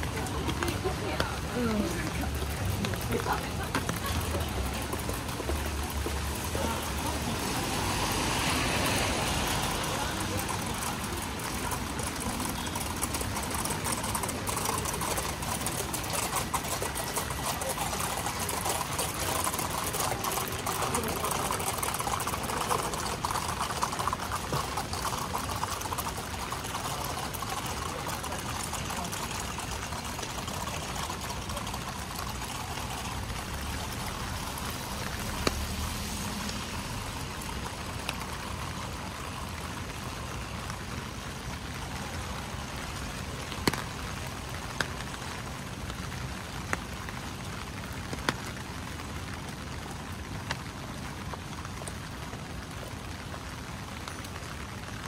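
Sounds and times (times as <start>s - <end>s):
sharp water drips: 0.0s - 55.0s
steady rain: 0.0s - 55.0s
water pouring and trickling: 0.0s - 55.0s.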